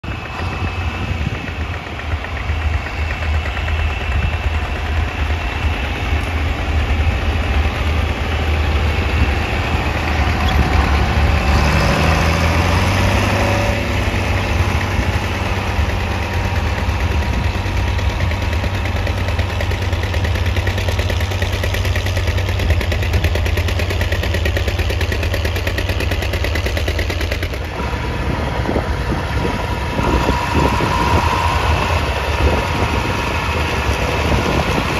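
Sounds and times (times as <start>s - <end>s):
tractor engine running under load: 0.0s - 34.9s.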